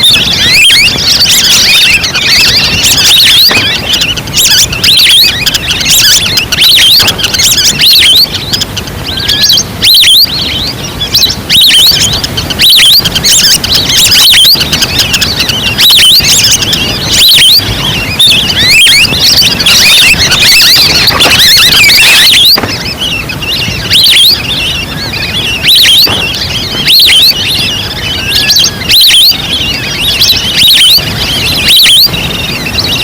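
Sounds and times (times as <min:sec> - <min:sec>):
duck call whistles: 0:00.0 - 0:33.0.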